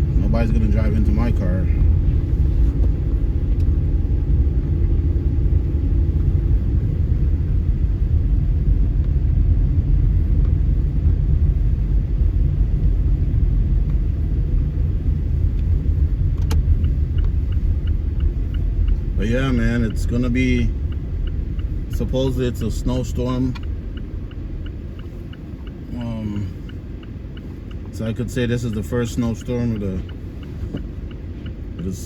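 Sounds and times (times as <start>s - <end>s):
car engine and tyre noise: 0.0s - 32.0s.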